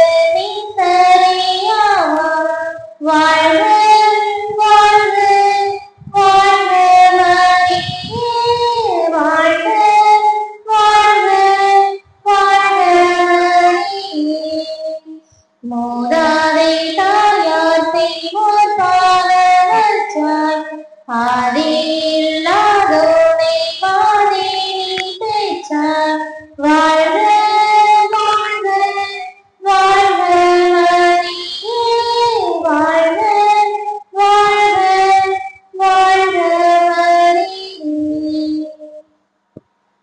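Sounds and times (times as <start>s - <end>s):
high voice singing a hymn: 0.0s - 39.0s.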